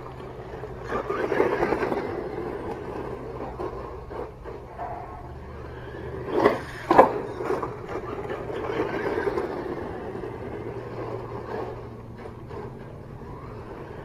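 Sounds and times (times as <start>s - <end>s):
toy truck rushing over rough ground: 0.0s - 14.0s.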